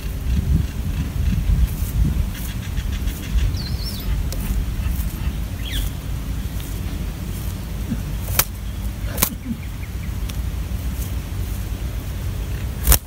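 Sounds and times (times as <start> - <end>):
bird nestlings chirping: 0.0 - 13.0
steady low rumble: 0.0 - 13.0.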